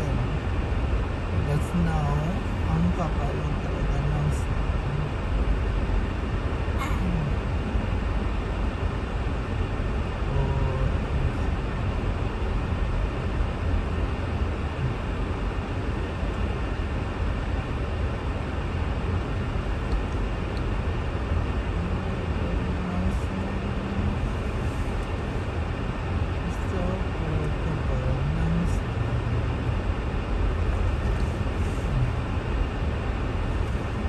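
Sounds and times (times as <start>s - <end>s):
car road and engine rumble: 0.0s - 34.0s.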